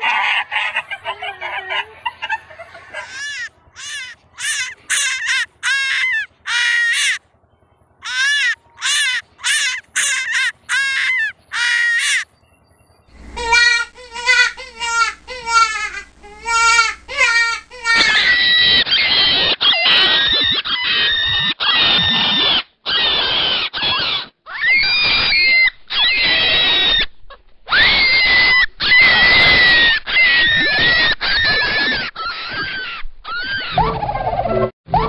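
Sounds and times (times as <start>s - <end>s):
rabbit screaming: 2.8s - 7.2s, 8.0s - 12.3s, 13.2s - 27.1s, 27.7s - 35.0s.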